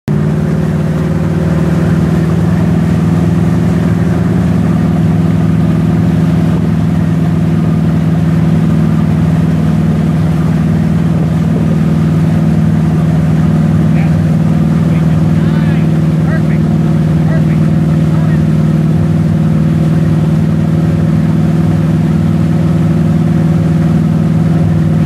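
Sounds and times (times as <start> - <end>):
boat engine droning: 0.1 - 25.0
wake water churning: 0.1 - 25.0.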